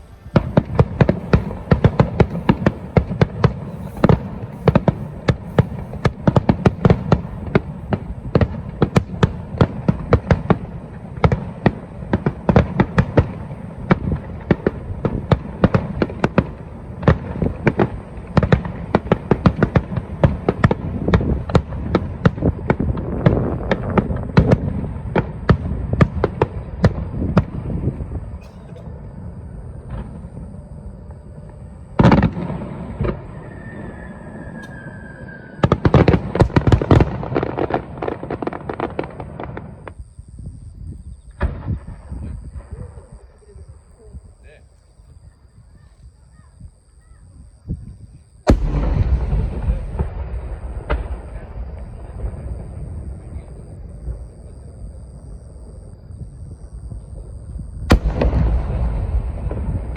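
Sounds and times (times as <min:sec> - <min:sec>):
fireworks bursts and cracks: 0:00.0 - 0:40.0, 0:41.3 - 0:44.5, 0:47.9 - 0:59.9
low rumble of booms: 0:00.0 - 0:44.6, 0:47.5 - 0:59.9.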